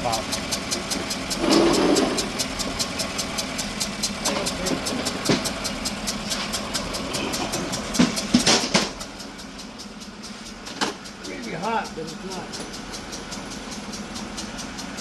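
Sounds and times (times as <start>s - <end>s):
truck engine idling with ticking: 0.0s - 15.0s.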